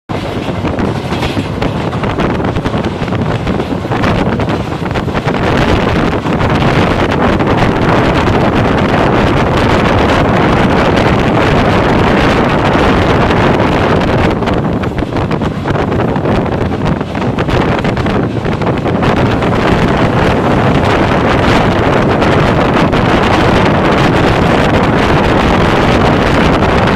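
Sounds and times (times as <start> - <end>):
train rushing past: 0.1 - 26.9
wind noise on microphone: 0.1 - 26.9.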